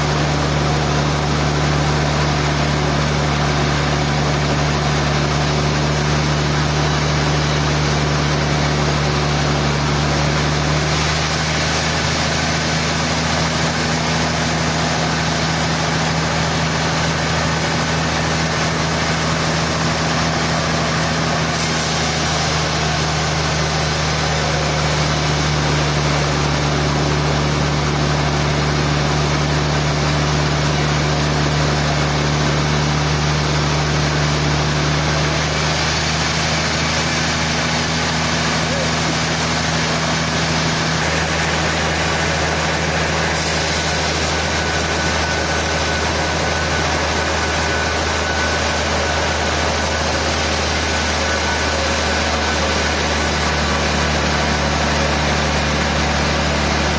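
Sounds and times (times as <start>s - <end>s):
sawmill machinery humming: 0.0s - 56.9s.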